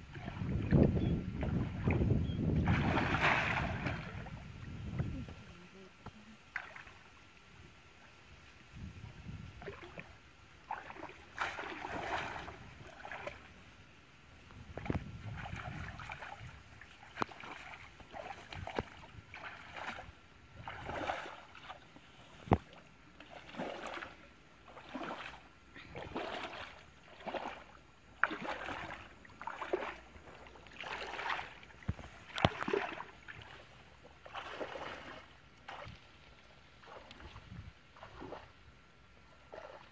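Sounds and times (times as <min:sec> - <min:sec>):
water splashing and sloshing: 0:00.0 - 0:13.8, 0:14.4 - 0:39.9.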